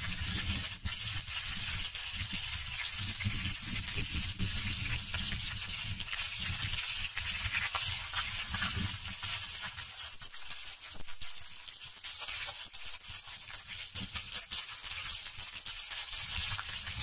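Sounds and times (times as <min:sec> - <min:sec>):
chicken frying in oil: 0:00.0 - 0:17.0.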